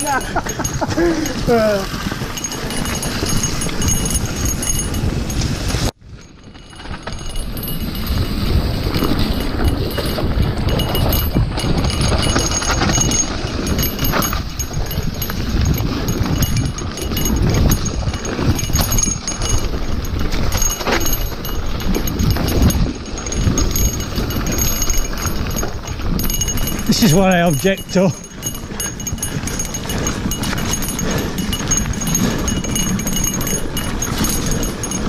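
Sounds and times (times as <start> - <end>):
bike knocking and rattling: 0.0 - 35.0
tyres on dirt trail: 0.0 - 35.0
wind noise: 0.0 - 35.0.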